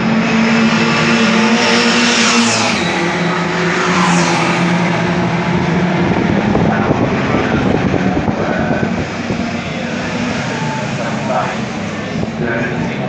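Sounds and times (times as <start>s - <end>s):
race car engines at high revs: 0.0s - 13.0s
race cars passing close: 0.0s - 13.0s.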